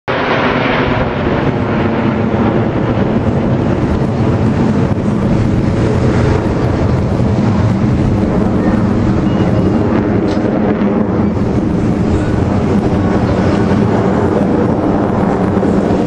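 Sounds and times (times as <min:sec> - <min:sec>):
jet engines flying overhead: 0:00.0 - 0:16.0.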